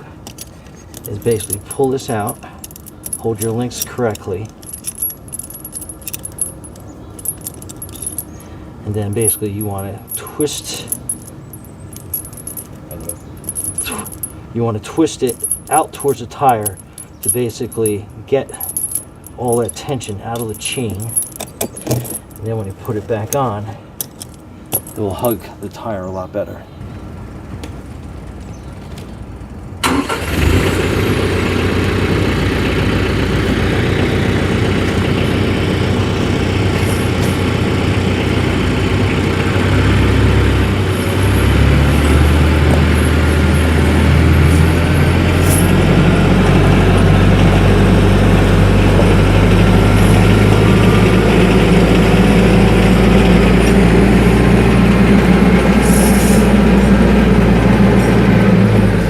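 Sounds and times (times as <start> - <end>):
tractor diesel engine running: 0.0 - 25.4, 28.0 - 59.0.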